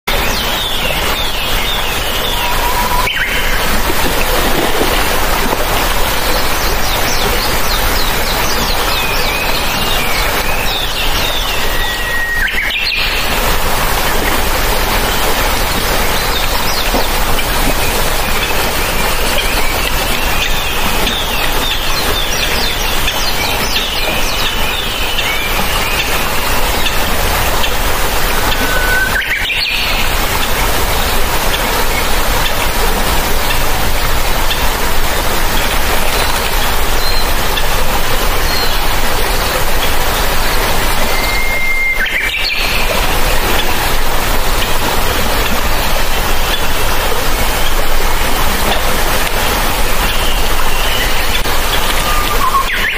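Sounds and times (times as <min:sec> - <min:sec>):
birds chirping: 0:00.1 - 0:52.9
stream rushing over rocks: 0:00.1 - 0:52.9.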